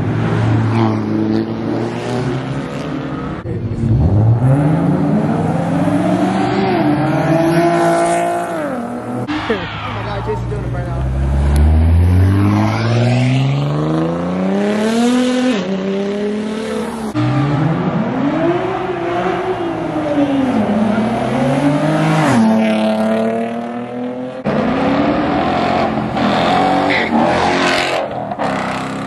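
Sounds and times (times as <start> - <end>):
car engines accelerating hard: 0.0 - 29.0.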